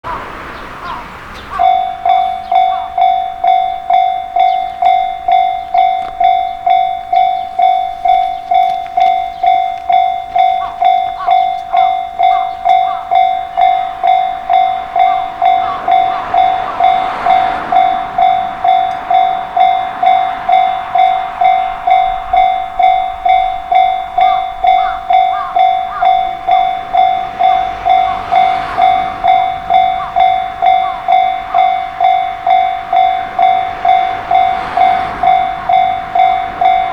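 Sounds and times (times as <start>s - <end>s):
level-crossing alarm ringing: 0.0s - 36.9s
train rushing past: 0.0s - 36.9s.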